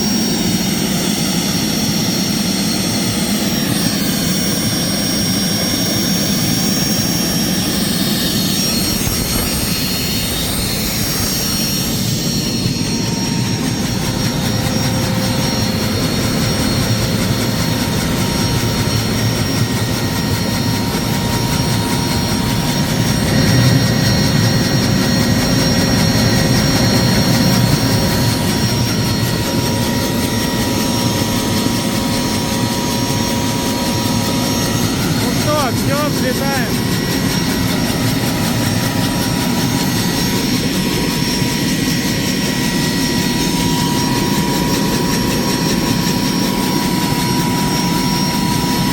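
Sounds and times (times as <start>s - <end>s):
high turbine whine: 0.0s - 48.9s
low rotor and exhaust noise: 0.0s - 48.9s.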